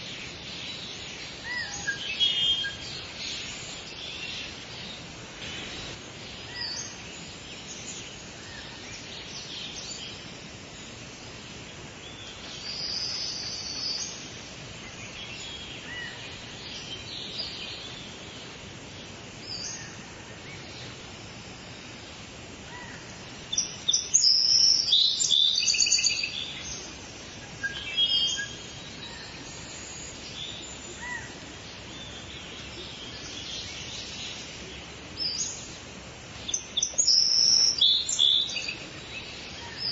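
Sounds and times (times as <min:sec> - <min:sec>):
songbirds singing and chirping: 0:00.0 - 0:39.9
steady outdoor hiss: 0:00.0 - 0:39.9.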